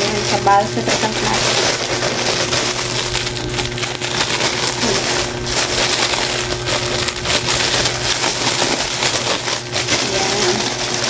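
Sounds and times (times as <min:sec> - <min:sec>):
plastic bag crinkling: 0:00.0 - 0:11.0
steady low hum: 0:00.0 - 0:11.0.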